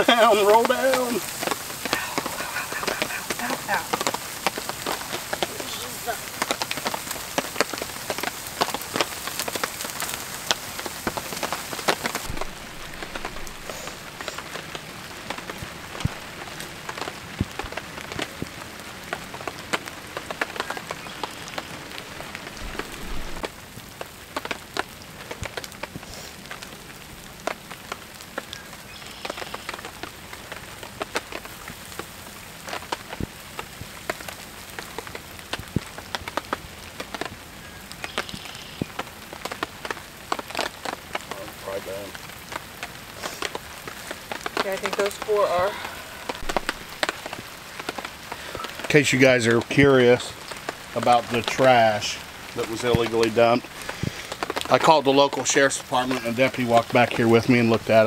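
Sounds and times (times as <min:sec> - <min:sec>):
rain on a tarp: 0:00.0 - 0:58.0.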